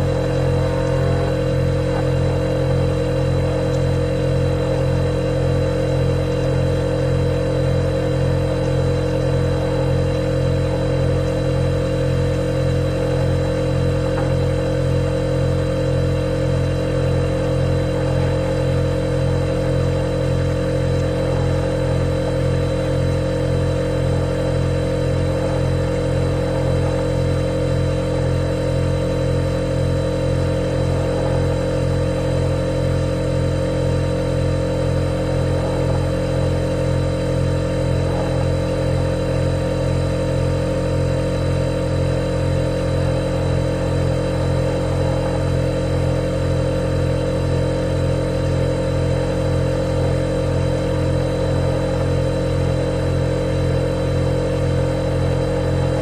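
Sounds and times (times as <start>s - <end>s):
refrigerator compressor humming: 0.0s - 56.0s.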